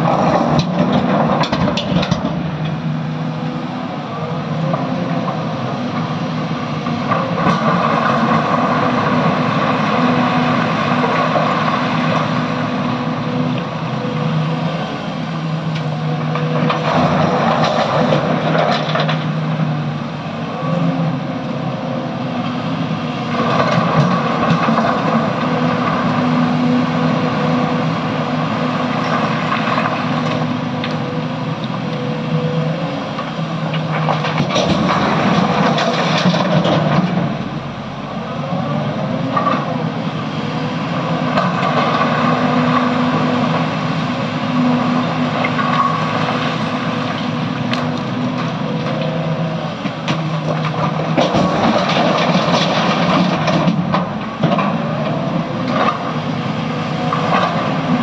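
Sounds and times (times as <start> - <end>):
excavator diesel engine working: 0.0 - 58.0.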